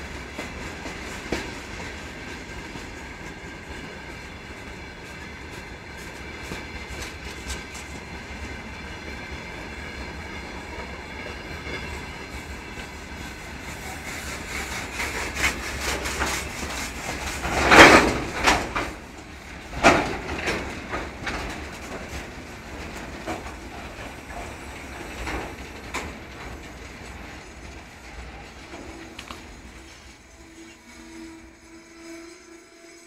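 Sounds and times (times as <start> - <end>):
train wheels clattering over rail joints: 0.0 - 31.6.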